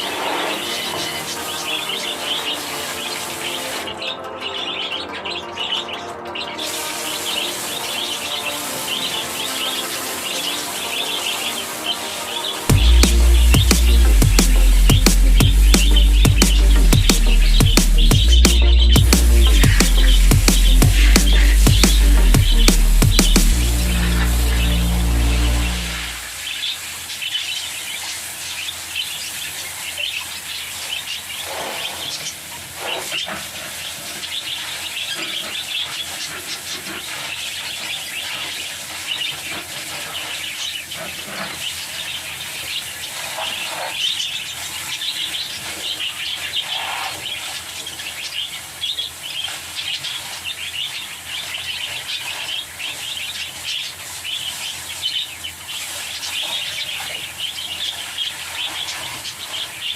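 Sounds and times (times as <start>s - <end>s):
birds chattering and chirping: 0.0s - 59.9s.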